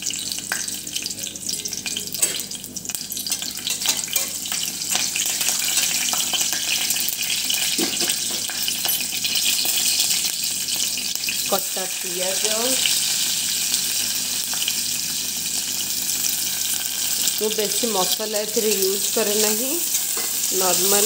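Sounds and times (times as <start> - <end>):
spices sizzling and crackling in oil: 0.0 - 21.0.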